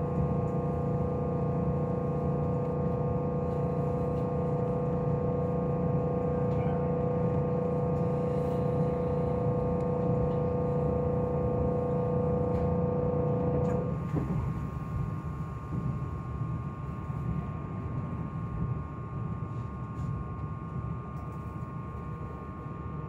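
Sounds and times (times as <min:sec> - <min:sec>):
electric train humming tone: 0:00.0 - 0:23.0
wheels rumbling on rail: 0:00.0 - 0:23.0.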